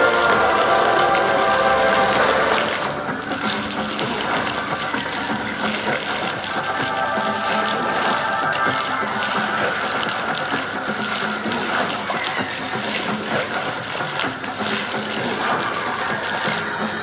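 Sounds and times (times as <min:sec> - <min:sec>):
faint music: 0:00.0 - 0:17.0
fountain water splashing: 0:00.0 - 0:17.0.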